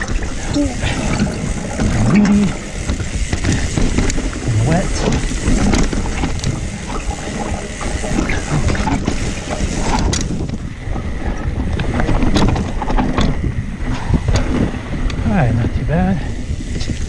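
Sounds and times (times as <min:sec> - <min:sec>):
bike clicks and rattles: 0:00.0 - 0:17.0
bike tyres rumbling: 0:00.0 - 0:17.0
wind buffeting microphone: 0:00.0 - 0:17.0.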